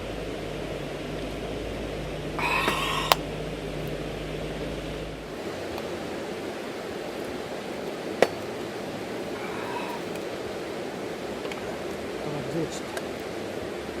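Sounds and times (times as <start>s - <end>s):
river flowing: 1.0s - 14.0s.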